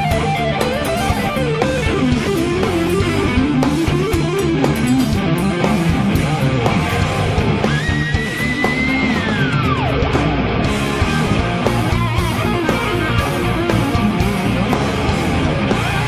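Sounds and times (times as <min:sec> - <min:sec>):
electric guitar lead melody: 0:00.0 - 0:16.0
instrumental rock backing with bass: 0:00.0 - 0:16.0.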